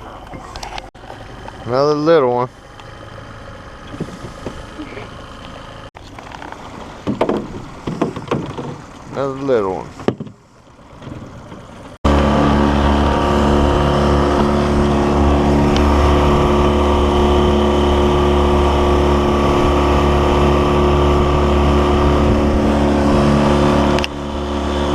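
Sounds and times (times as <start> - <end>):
motorboat engine running: 0.0 - 24.9.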